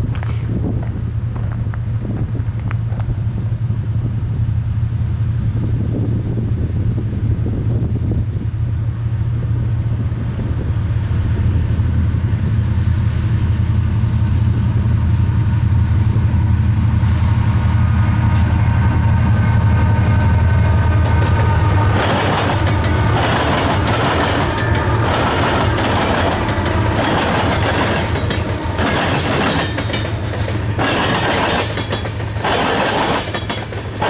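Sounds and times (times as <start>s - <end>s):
diesel train engine rumble: 0.0s - 34.0s.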